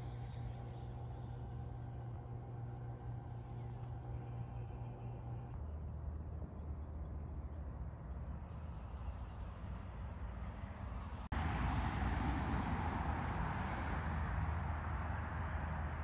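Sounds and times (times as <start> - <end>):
outdoor background noise with rumble: 0.0 - 16.0.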